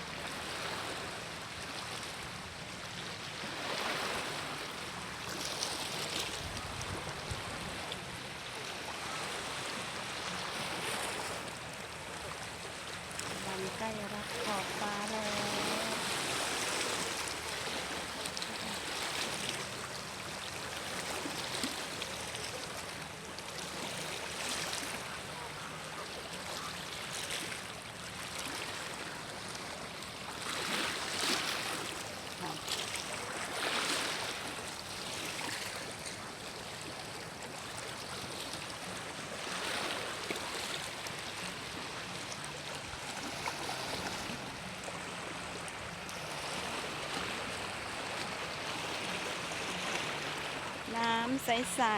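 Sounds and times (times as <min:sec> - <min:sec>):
sea waves washing onto beach: 0:00.0 - 0:51.9.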